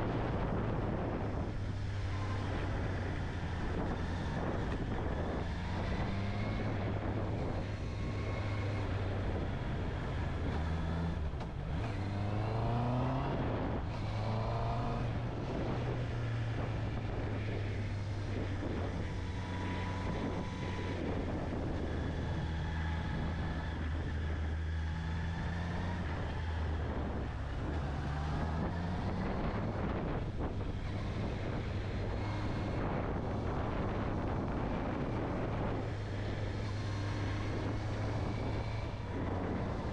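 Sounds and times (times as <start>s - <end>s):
motorcycle engine revving: 0.0s - 39.9s
wind rush over microphone: 0.0s - 39.9s.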